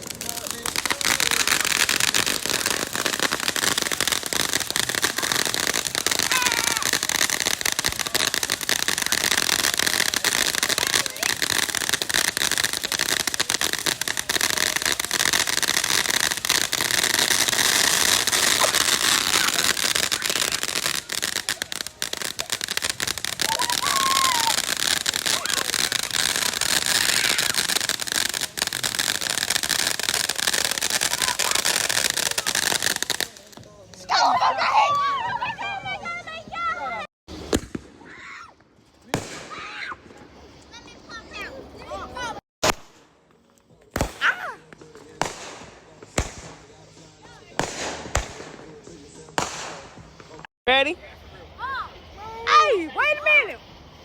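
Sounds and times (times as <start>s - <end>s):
fireworks crackling: 0.0s - 54.0s.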